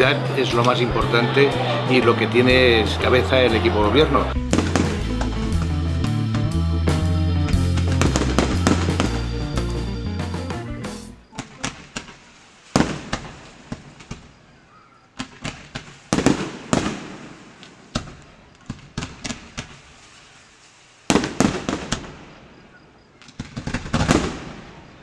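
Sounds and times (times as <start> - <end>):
fireworks bangs: 0.0 - 5.7, 7.7 - 10.5, 11.1 - 14.4, 15.2 - 19.9, 21.1 - 25.0.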